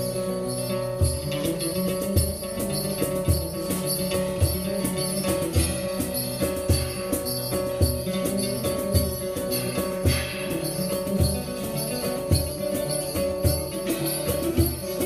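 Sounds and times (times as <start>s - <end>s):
acoustic guitars: 0.0s - 15.0s
jingling percussion: 0.0s - 15.0s
low drum beat: 1.0s - 15.0s.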